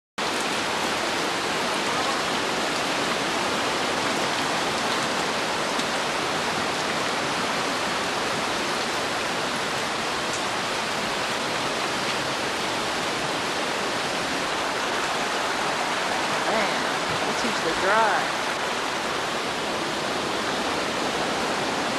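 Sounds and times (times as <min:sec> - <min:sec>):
water rushing: 0:00.2 - 0:21.9.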